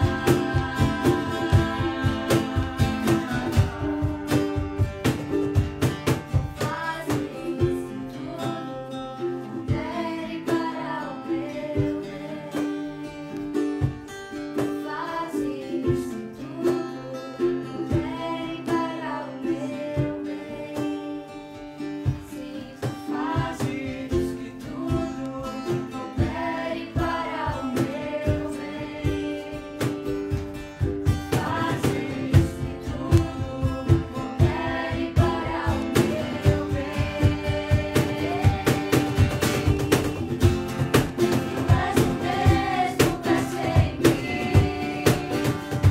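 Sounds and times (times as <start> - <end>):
person singing: 0.0 - 5.4, 6.5 - 30.3, 31.3 - 45.9
strummed guitar: 0.0 - 45.9.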